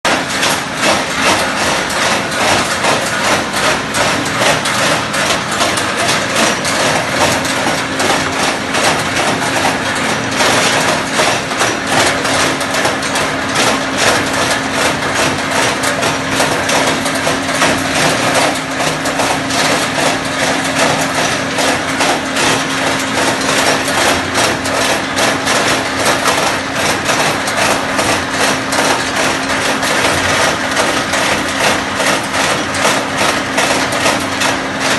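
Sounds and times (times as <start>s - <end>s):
nuts rattling in machine: 0.1s - 34.9s.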